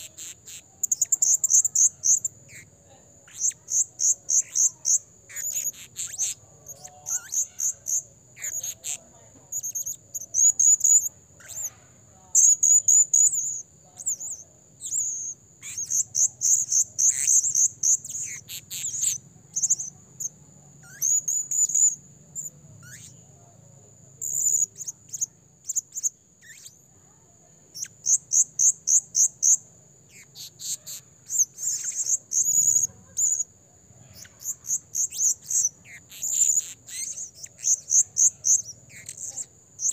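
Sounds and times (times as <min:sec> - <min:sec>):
parrot shrill chirps: 0:00.0 - 0:11.8, 0:12.4 - 0:19.9, 0:20.8 - 0:23.2, 0:24.2 - 0:26.8, 0:27.7 - 0:39.9.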